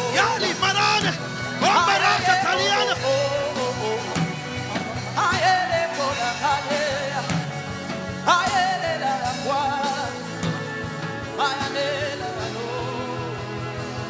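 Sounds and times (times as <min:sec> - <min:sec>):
instrumental worship music: 0:00.0 - 0:14.0.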